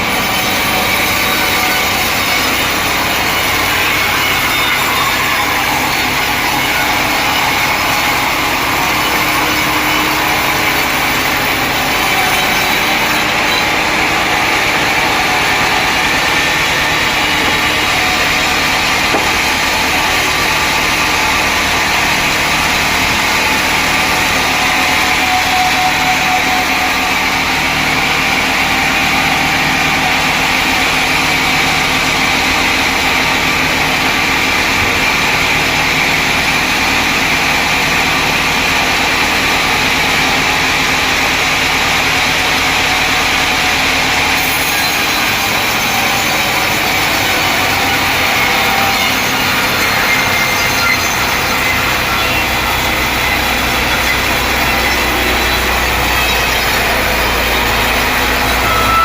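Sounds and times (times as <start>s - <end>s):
sawmill motor drone: 0.0s - 59.0s
high whine: 1.8s - 37.8s, 42.5s - 59.0s.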